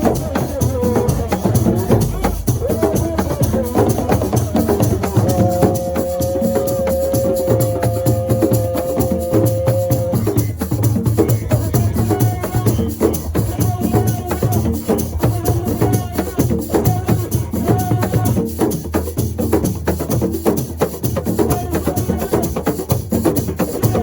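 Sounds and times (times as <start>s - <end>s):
fast percussion drums: 0.0s - 24.0s.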